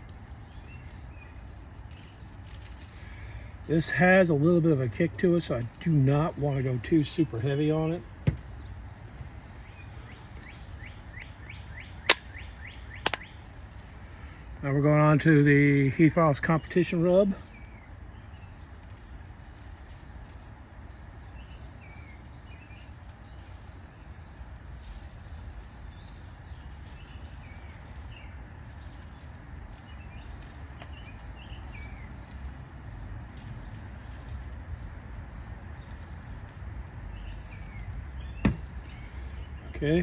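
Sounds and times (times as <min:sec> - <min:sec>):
outdoor background rumble and hiss: 0:00.0 - 0:40.0
small birds chirping: 0:00.0 - 0:40.0.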